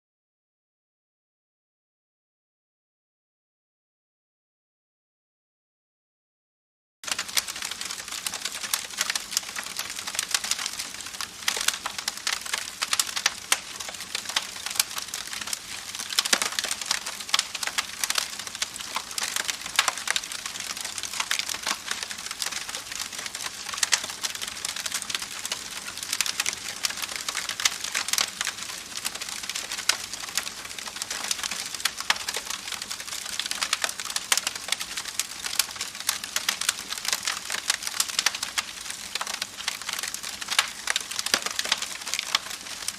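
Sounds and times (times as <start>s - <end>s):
campfire crackling: 7.0s - 42.9s.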